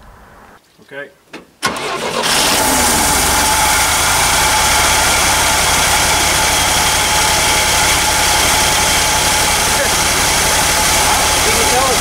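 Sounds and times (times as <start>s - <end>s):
pickup engine idling: 1.8s - 12.0s.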